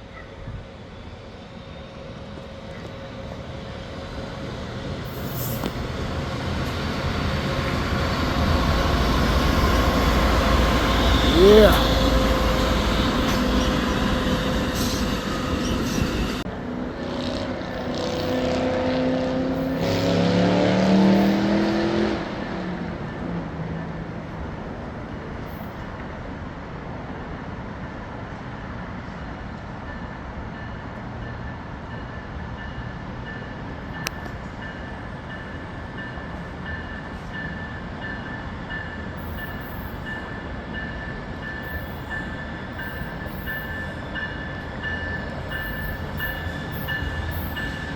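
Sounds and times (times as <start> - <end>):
passenger train rumbling past: 0.0 - 47.9.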